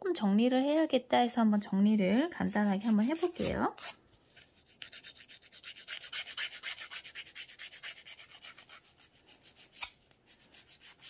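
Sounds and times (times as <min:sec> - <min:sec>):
nail file rasping: 0:02.1 - 0:11.0.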